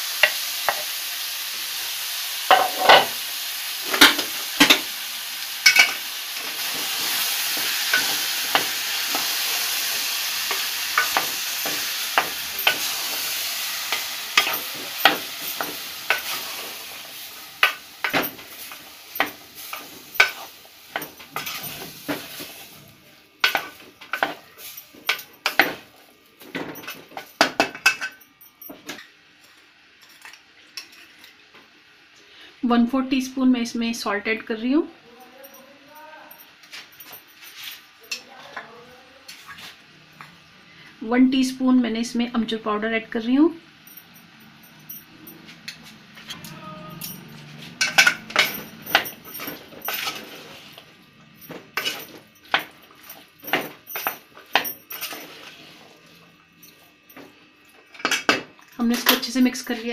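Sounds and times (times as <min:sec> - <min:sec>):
faint frying sizzle: 0:00.0 - 0:34.9, 0:45.5 - 0:59.9.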